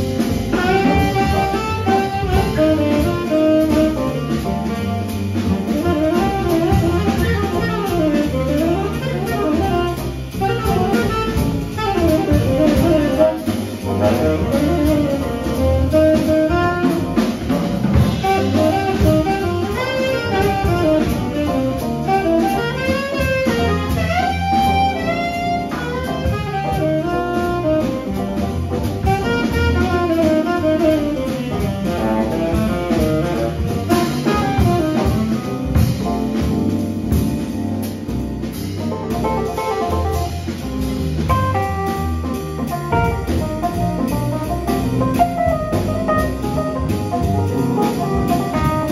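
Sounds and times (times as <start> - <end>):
double bass: 0.0 - 48.9
drum kit: 0.0 - 48.9
piano: 0.0 - 48.9
saxophone melody: 0.1 - 38.2, 41.2 - 48.9.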